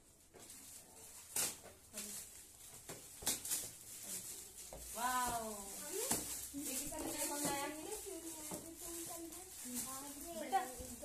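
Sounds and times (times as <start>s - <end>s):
wrapping paper rustling and crinkling: 0.0s - 11.0s.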